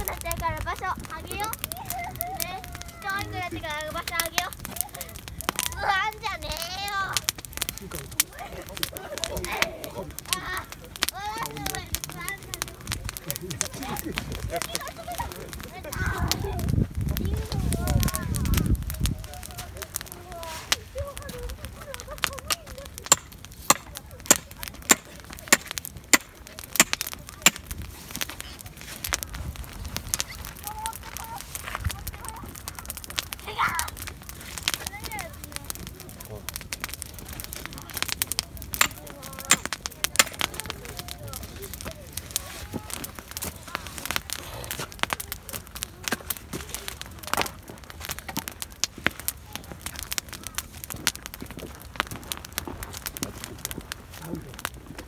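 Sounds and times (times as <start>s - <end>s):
bonfire crackling and popping: 0.0s - 55.0s.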